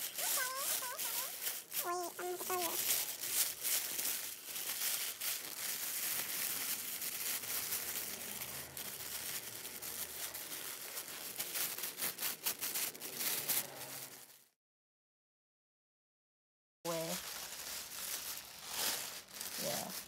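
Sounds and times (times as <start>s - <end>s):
tissue paper crinkling: 0.0s - 14.6s, 16.9s - 20.0s.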